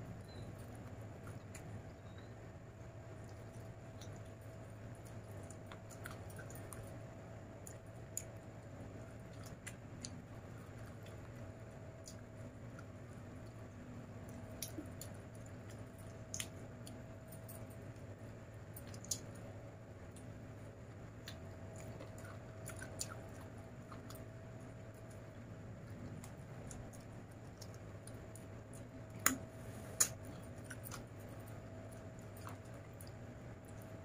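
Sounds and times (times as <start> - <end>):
chewing food: 0.0 - 34.0
low steady hum: 0.0 - 34.0.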